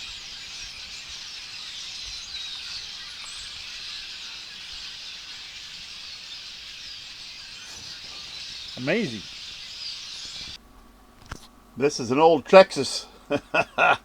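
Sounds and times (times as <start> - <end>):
flock of blackbirds chattering: 0.0 - 10.6, 11.8 - 14.0.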